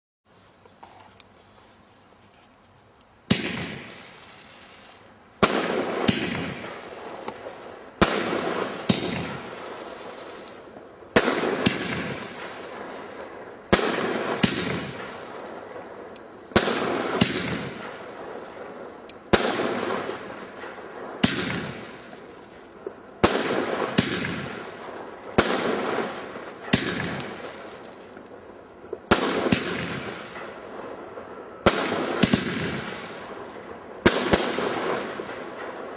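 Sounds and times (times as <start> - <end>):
firework hiss: 0.3 - 35.9
firework launch bangs: 3.3 - 35.9.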